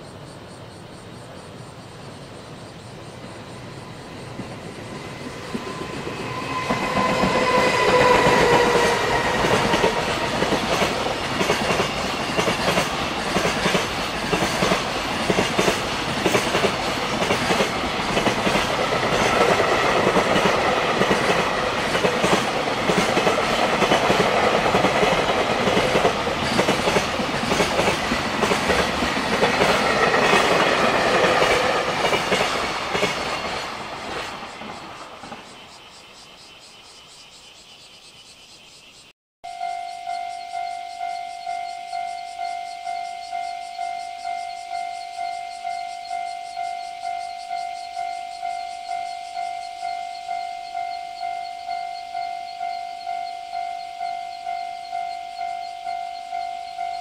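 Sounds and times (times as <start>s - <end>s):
freight train passing: 0.0s - 36.4s, 39.5s - 57.0s.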